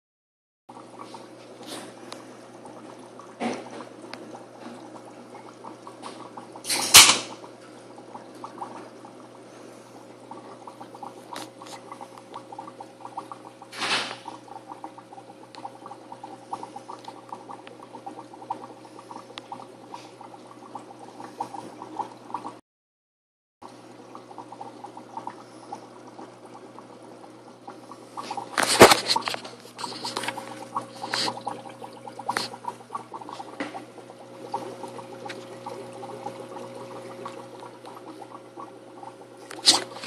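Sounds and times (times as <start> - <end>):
aquarium water bubbling: 0.7 - 22.6, 23.6 - 40.0
pump hum: 0.7 - 22.6, 23.6 - 40.0.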